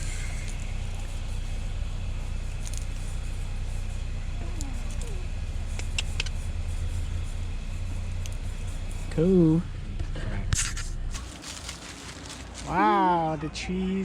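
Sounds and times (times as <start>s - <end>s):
car cabin low hum: 0.0s - 13.9s.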